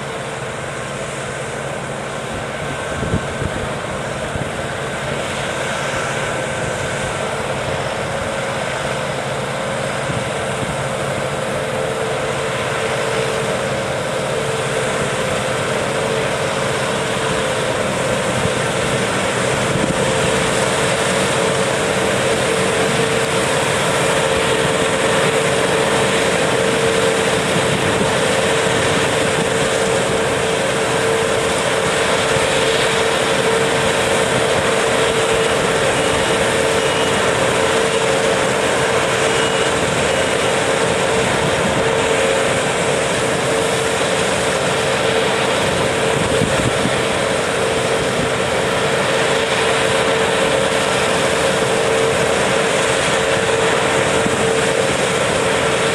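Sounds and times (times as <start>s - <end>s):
combine harvester droning: 0.0s - 55.9s
tractor engine: 0.0s - 55.9s.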